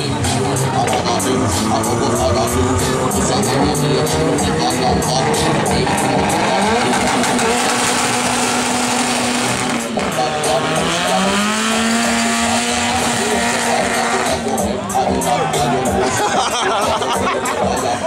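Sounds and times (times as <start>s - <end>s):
car engine at high revs: 0.0s - 14.6s.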